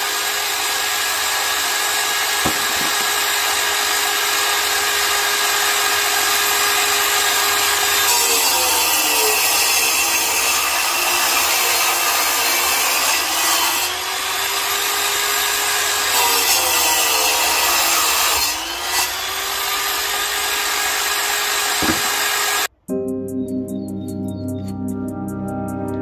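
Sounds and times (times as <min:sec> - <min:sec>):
angle grinder cutting brick: 0:00.0 - 0:22.7.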